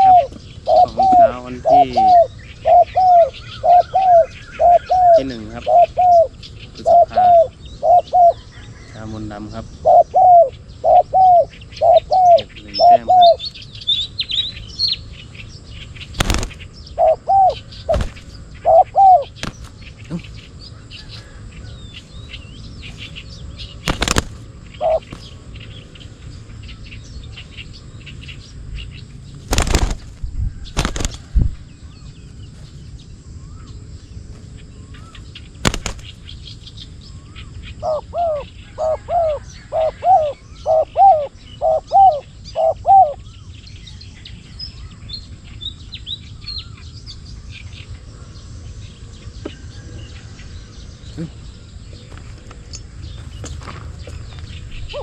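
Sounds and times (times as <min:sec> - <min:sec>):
doves cooing: 0:00.0 - 0:15.0, 0:15.8 - 0:28.2, 0:29.4 - 0:32.1, 0:34.9 - 0:36.4, 0:37.1 - 0:43.3, 0:48.0 - 0:55.0
small birds chirping: 0:00.0 - 0:55.0.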